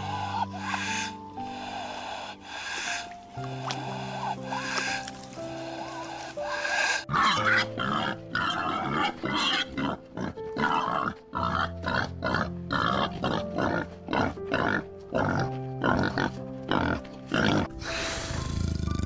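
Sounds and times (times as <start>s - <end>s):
soft background music: 0.0s - 19.0s
young boars grunting: 0.0s - 19.0s.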